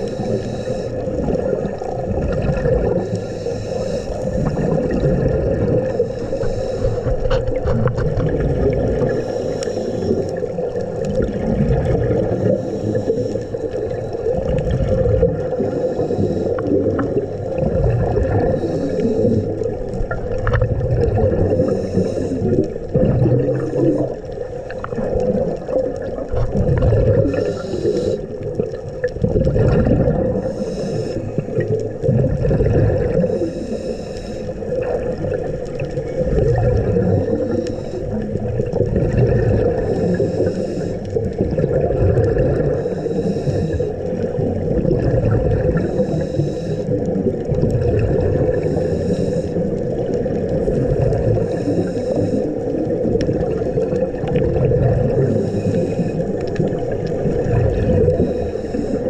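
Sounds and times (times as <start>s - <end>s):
bubbles gurgling underwater: 0.0s - 33.8s, 34.4s - 59.0s.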